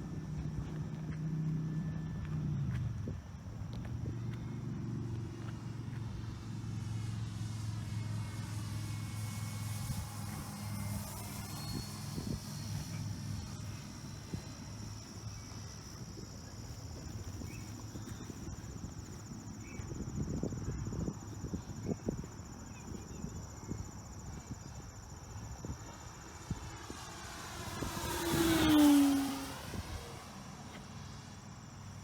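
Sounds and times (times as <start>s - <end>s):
high insect drone: 0.0s - 32.0s
low wind rumble: 0.0s - 32.0s
model plane electric motor whine: 3.7s - 32.0s.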